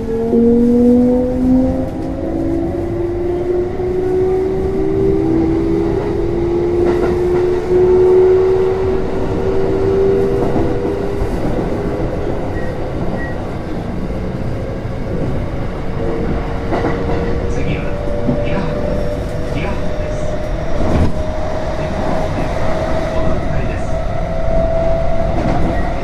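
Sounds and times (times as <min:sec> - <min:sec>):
train rolling rumble: 0:00.0 - 0:26.0.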